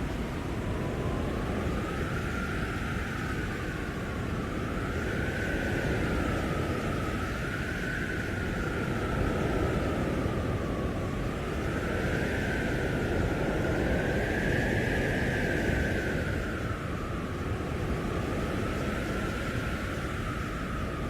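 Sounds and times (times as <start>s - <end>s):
storm wind howling: 0.0s - 21.0s
wind gusts buffeting microphone: 0.0s - 21.0s.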